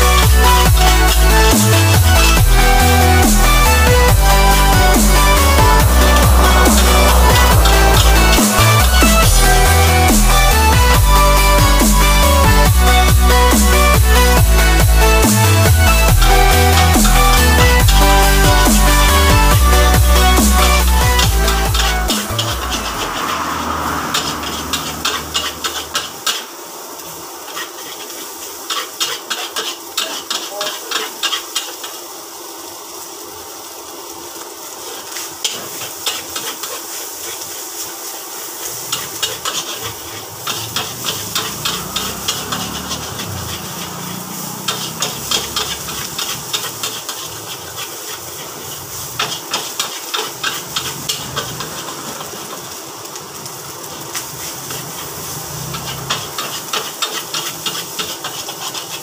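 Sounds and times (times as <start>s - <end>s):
rice sizzling in a wok: 0.0s - 59.0s.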